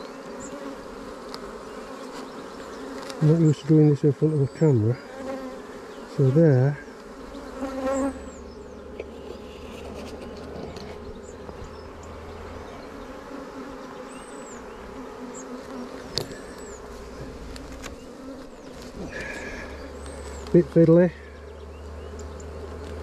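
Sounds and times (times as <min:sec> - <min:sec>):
honeybees humming: 0:00.0 - 0:23.0.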